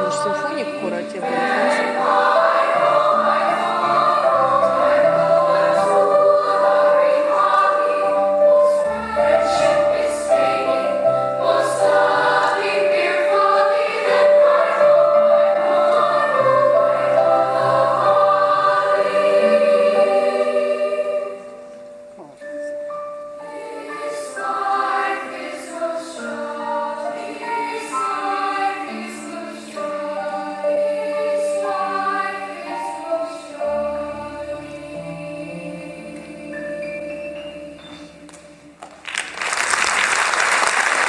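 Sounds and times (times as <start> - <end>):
choir singing in harmony: 0.0 - 22.1, 22.7 - 38.8.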